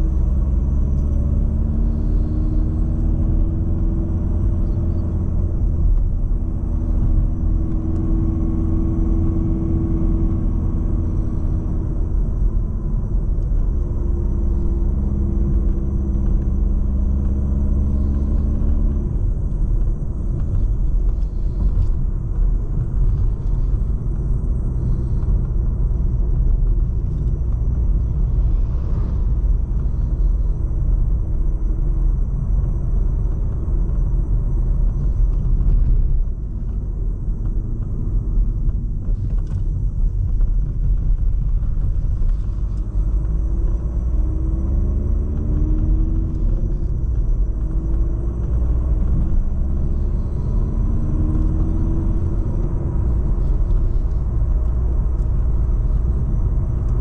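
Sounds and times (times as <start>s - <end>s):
car engine running: 0.0s - 57.0s
road rumble: 0.0s - 57.0s.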